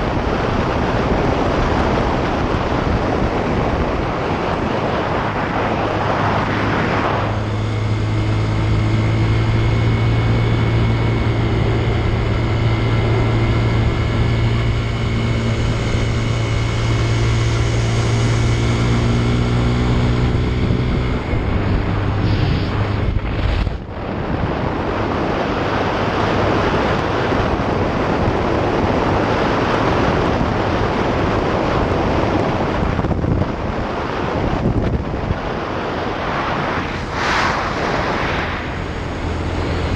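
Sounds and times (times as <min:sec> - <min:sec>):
wind noise on microphone: 0:00.0 - 0:39.9
motorcycle engine running: 0:05.3 - 0:33.8, 0:34.4 - 0:39.9.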